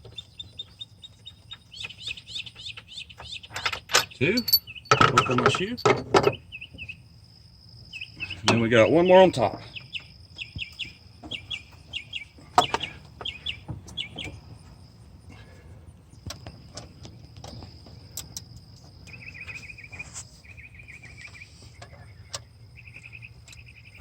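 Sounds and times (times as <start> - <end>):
birds chirping: 0.0 - 24.0
high insect whine: 0.0 - 24.0.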